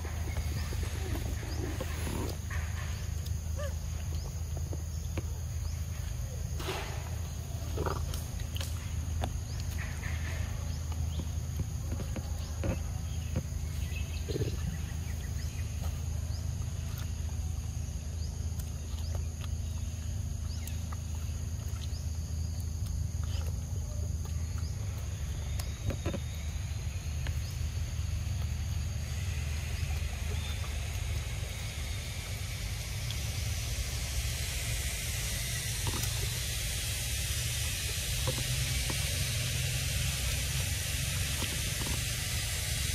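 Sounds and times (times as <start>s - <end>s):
steady high hiss: 0.0s - 18.6s, 23.8s - 42.9s.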